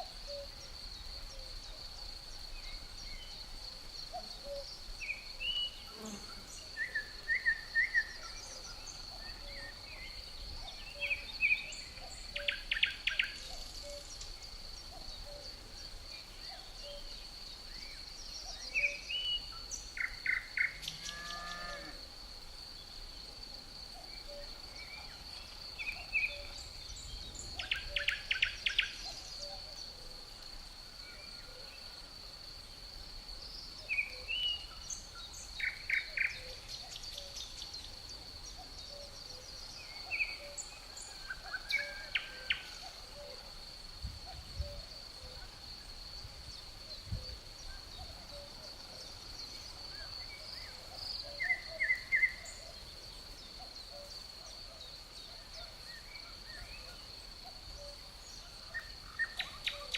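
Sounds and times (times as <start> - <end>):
cricket trilling: 0.0 - 59.9
songbirds chirping: 0.0 - 59.9.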